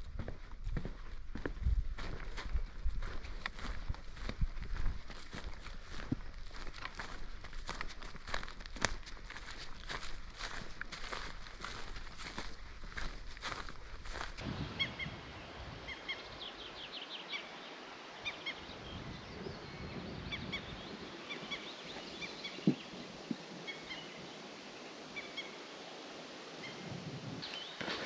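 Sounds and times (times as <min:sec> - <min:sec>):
birds chirping: 0:03.0 - 0:25.8, 0:27.4 - 0:28.0.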